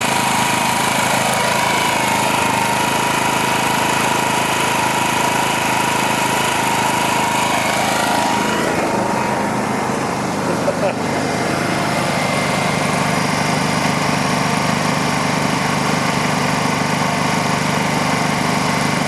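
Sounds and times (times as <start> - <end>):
petrol generator running: 0.0 - 19.0.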